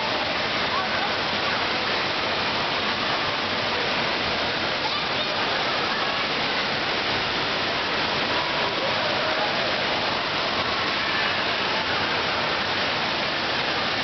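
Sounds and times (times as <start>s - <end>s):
faint indistinct voices: 0.0s - 14.0s
water pouring and splashing: 0.0s - 14.0s.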